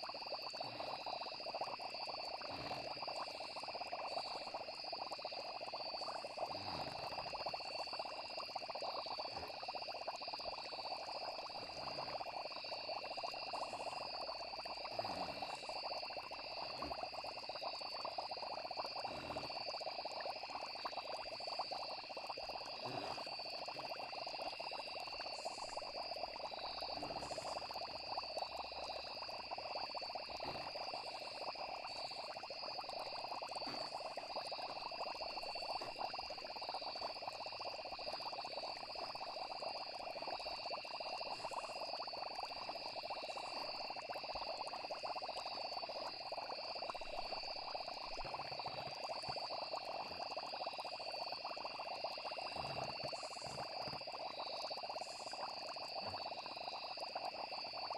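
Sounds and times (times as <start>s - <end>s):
frogs chorus: 0.0s - 57.9s
insects trilling: 0.0s - 57.9s.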